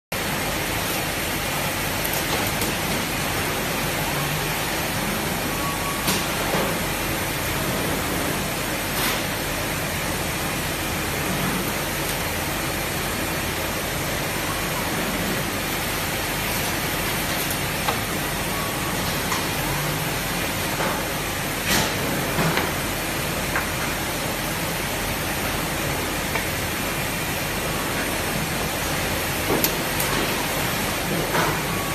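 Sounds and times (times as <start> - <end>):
factory machinery hiss and hum: 0.2 - 31.9.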